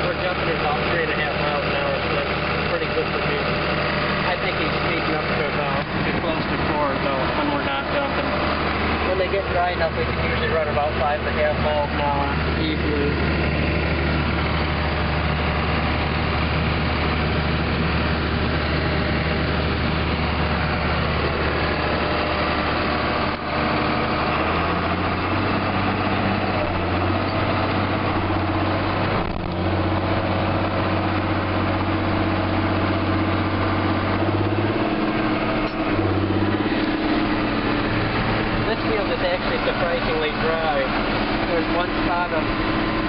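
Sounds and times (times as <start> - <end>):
combine harvester engine drone: 0.0 - 43.0
tractor engine hum: 0.0 - 43.0.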